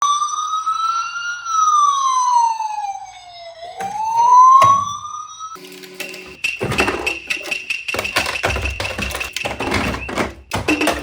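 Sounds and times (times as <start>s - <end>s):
siren wailing: 0.0s - 10.0s.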